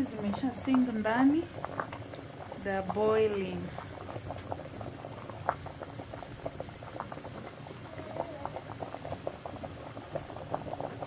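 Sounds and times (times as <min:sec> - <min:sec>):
water boiling in a pot: 0:00.0 - 0:11.0.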